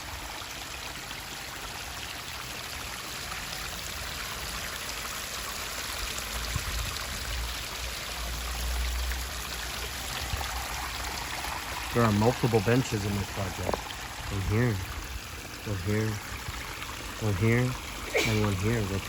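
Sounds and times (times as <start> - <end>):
waterfall trickling over rocks: 0.0 - 19.0.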